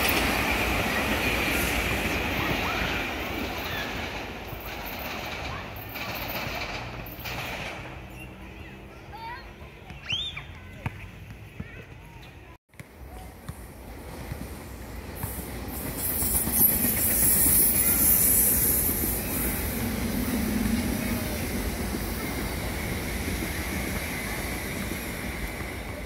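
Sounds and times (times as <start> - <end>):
electric train passing at speed: 0.0 - 9.4, 13.5 - 26.0.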